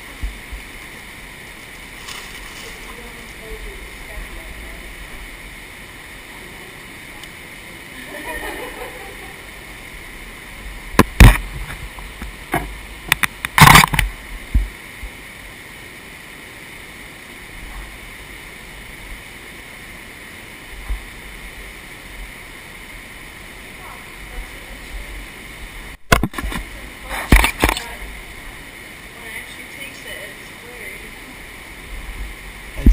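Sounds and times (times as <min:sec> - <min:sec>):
steady hiss: 0:00.0 - 0:32.9.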